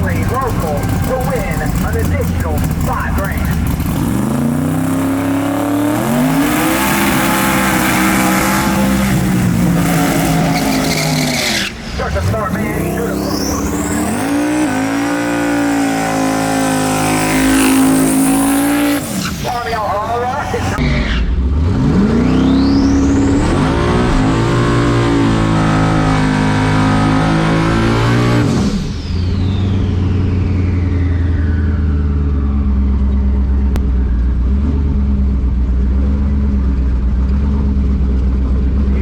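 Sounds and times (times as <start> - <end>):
falling whine: 0.0 - 34.5
low engine drone: 0.0 - 39.0
race car engine at full throttle: 0.0 - 39.0.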